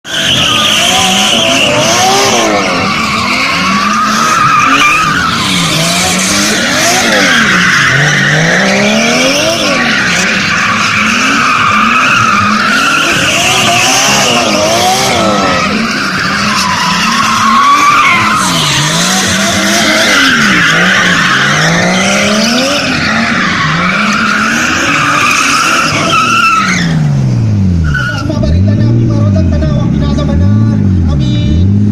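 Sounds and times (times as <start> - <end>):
tyre squeal: 0.1 - 27.1, 27.8 - 28.7
car engine revving: 0.1 - 31.9.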